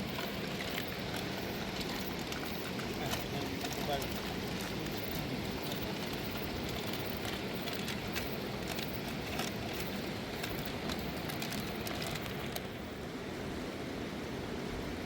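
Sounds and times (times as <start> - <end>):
campfire crackling and popping: 0.2 - 12.8.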